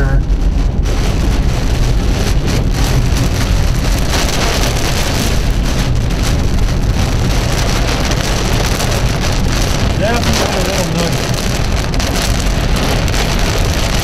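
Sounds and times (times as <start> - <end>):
heavy rain on car windshield: 0.0 - 14.0
low rumble: 0.0 - 14.0.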